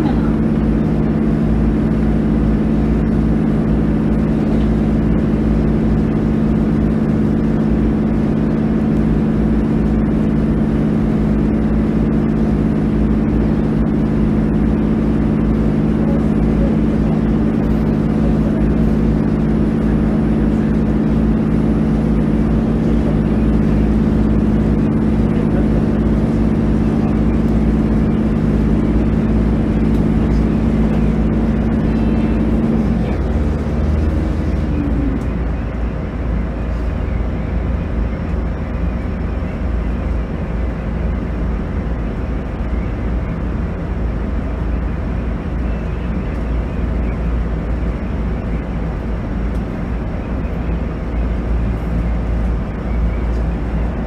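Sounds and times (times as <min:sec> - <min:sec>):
diesel engine droning: 0:00.0 - 0:54.0
train running gear rumble: 0:00.0 - 0:54.0.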